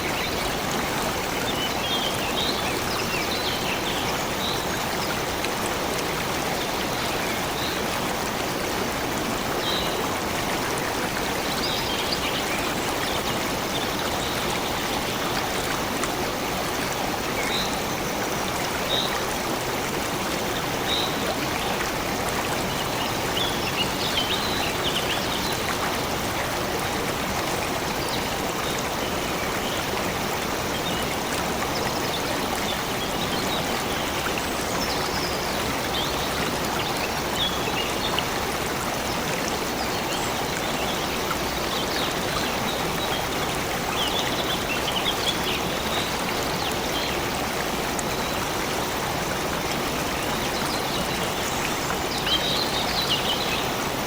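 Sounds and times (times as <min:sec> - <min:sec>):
stream of water running: 0:00.0 - 0:54.0.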